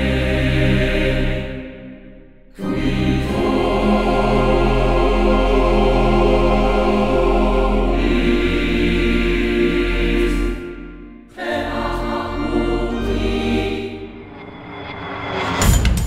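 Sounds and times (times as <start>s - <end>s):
choral music: 0.0s - 16.0s.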